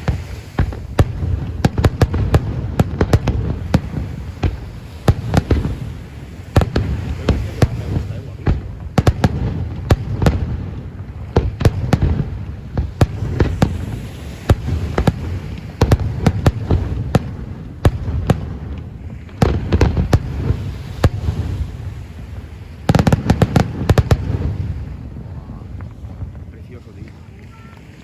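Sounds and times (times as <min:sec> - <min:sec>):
fireworks bangs and cracks: 0:00.0 - 0:27.9.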